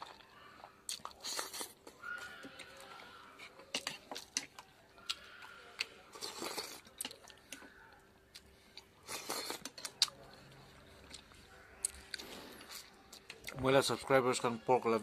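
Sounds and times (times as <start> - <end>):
man chewing food: 0.0 - 14.1.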